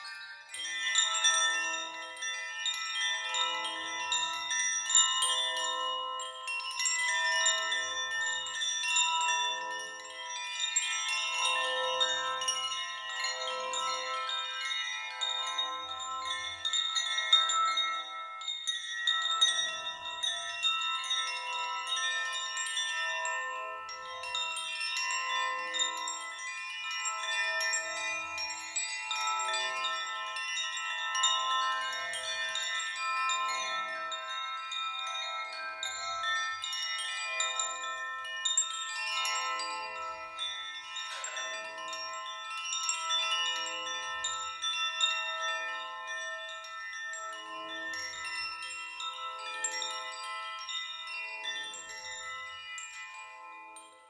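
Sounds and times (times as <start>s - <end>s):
high bell-like chimes: 0.0s - 54.0s.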